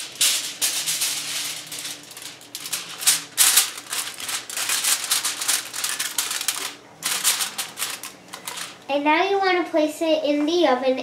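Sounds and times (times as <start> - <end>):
aluminium foil crinkling: 0.0 - 8.9.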